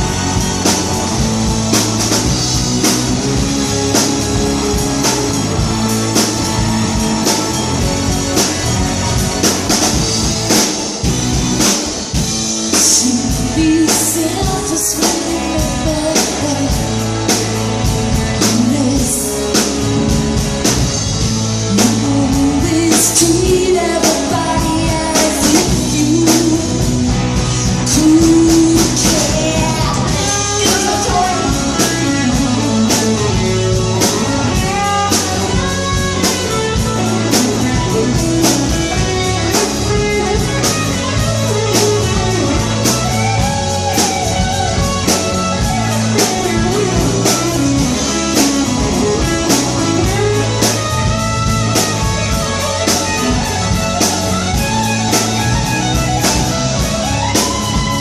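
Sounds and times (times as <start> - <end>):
rock song with electric guitar: 0.0 - 58.0.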